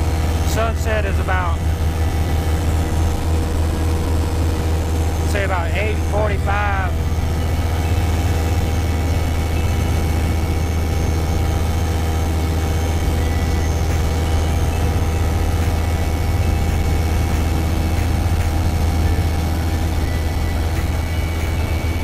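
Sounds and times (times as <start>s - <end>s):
aircraft engine and propeller droning: 0.0s - 22.0s.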